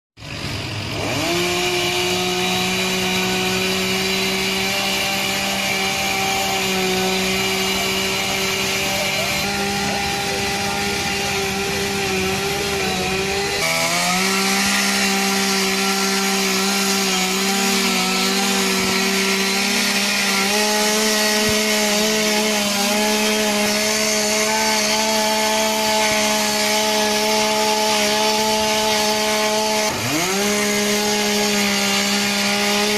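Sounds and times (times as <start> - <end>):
chainsaw cutting wood: 0.2 - 32.9.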